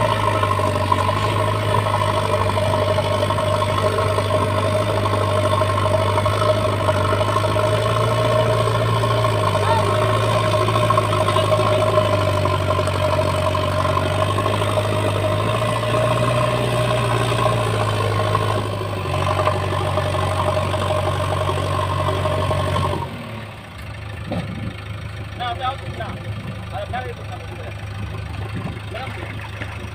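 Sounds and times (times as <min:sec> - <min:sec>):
diesel engine under load: 0:00.0 - 0:29.9.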